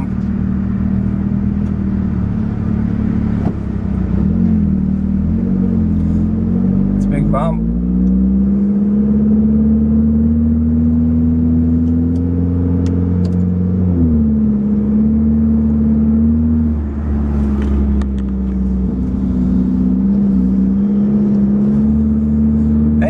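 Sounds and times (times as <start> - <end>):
car engine and leaking exhaust: 0.0 - 9.5, 10.2 - 23.0.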